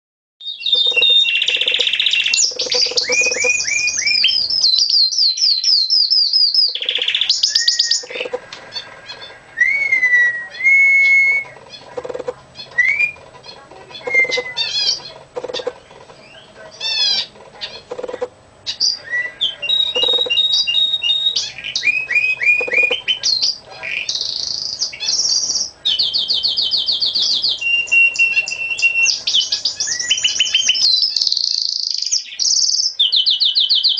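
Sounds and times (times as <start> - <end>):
canary singing: 0.4 - 33.9.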